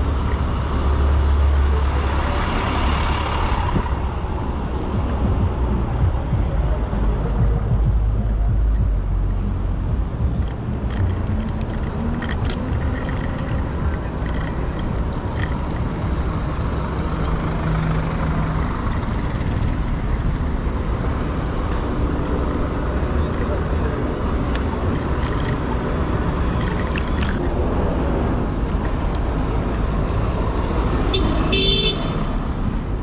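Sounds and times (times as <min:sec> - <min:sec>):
passing vehicle engine hum: 0:00.0 - 0:33.0
street traffic and road noise: 0:00.0 - 0:33.0.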